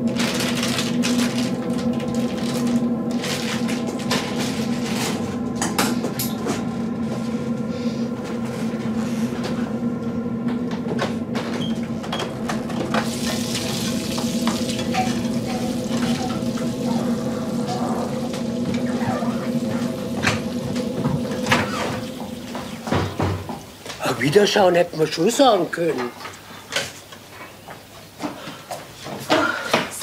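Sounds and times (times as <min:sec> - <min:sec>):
steady droning tone: 0:00.0 - 0:24.2.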